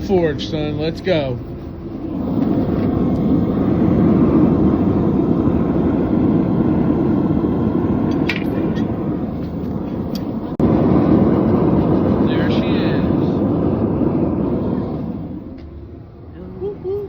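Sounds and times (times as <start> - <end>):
forge rushing noise: 0.0 - 17.0.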